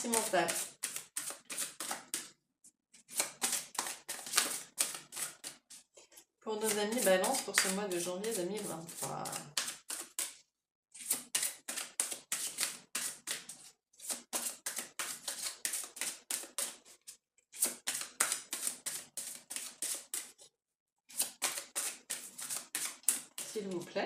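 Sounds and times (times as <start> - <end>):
cards being shuffled: 0.0 - 2.3, 3.0 - 5.9, 6.7 - 10.4, 11.0 - 20.4, 21.1 - 23.9.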